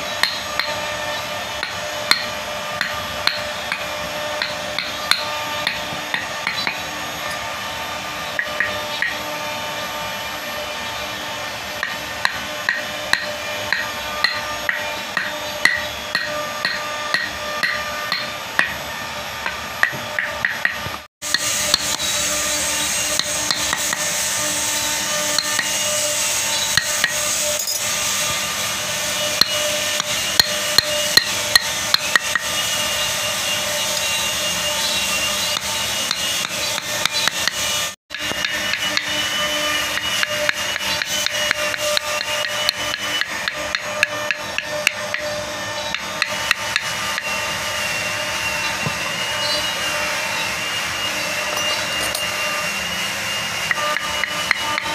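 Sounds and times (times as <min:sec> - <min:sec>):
steady background hum: 0:00.0 - 0:54.9.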